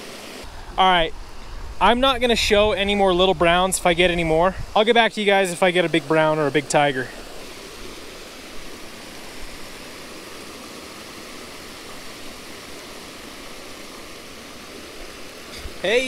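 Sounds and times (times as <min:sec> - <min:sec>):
water rushing over a weir: 0:00.0 - 0:16.0.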